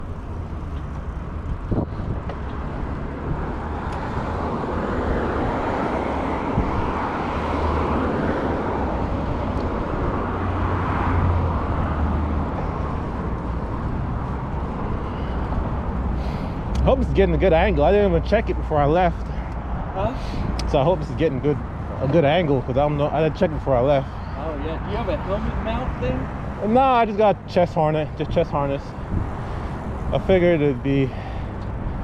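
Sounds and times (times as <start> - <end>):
bicycle road noise: 0.0 - 32.0
wind rumble: 0.0 - 32.0.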